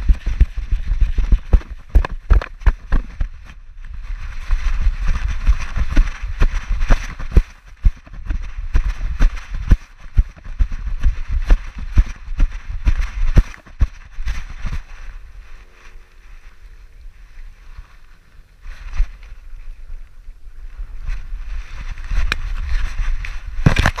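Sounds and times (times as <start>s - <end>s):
rustling: 0.0s - 24.0s
wind rumble on microphone: 0.0s - 24.0s.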